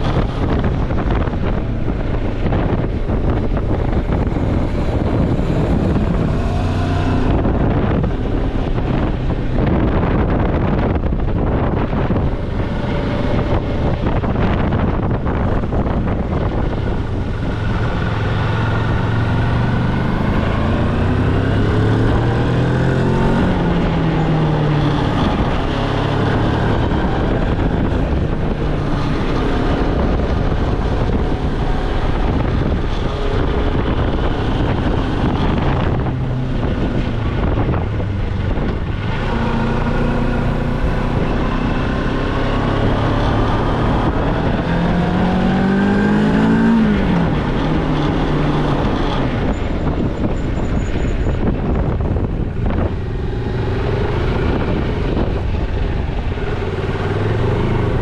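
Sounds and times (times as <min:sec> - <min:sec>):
motorcycle engine accelerating: 0:00.0 - 0:58.0
wind buffeting microphone: 0:00.0 - 0:58.0.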